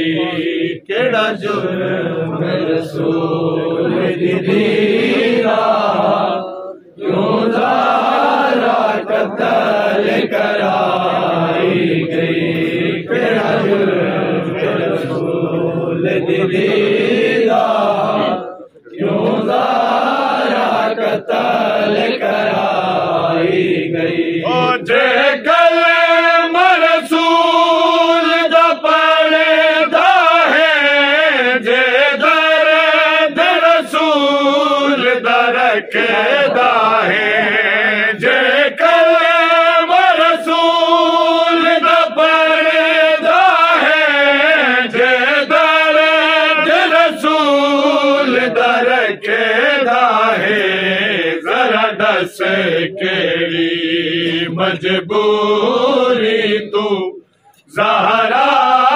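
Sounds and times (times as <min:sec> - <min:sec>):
man singing long held lines: 0:00.0 - 0:58.9
men chanting: 0:00.0 - 0:58.9.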